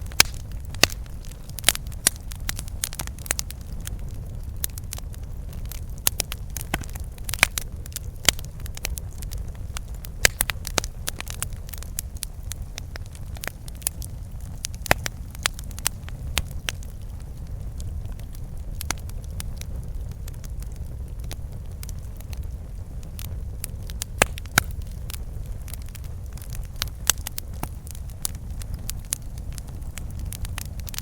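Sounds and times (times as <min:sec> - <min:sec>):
low rumble of flames: 0:00.0 - 0:31.0
wood crackling and popping: 0:00.0 - 0:31.0.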